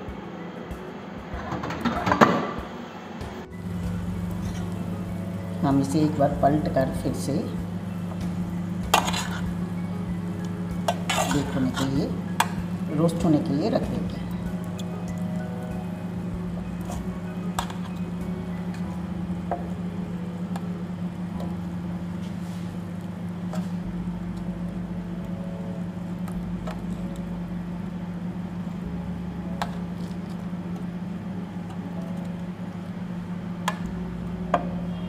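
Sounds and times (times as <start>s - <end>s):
steady low hum: 2.6s - 35.0s.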